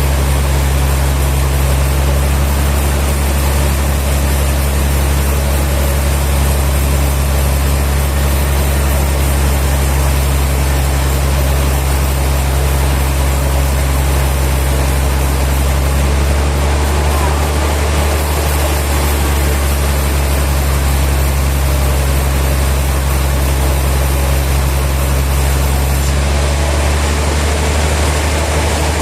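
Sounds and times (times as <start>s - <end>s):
sawmill machinery humming: 0.0s - 29.0s.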